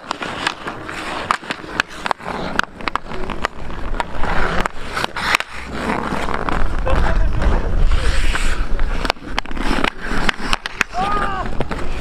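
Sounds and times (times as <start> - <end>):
skate blades scraping ice: 0.0 - 12.0
sticks hitting puck: 0.0 - 12.0.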